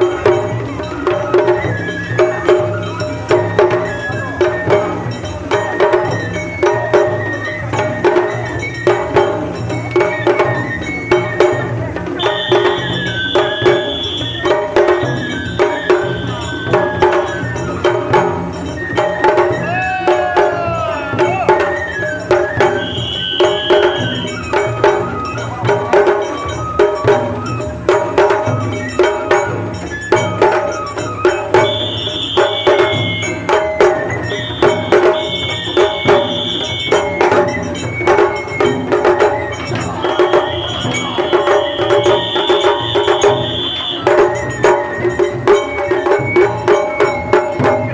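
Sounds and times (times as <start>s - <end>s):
drums and clanging percussion: 0.0s - 47.9s
high flute melody: 0.0s - 47.9s.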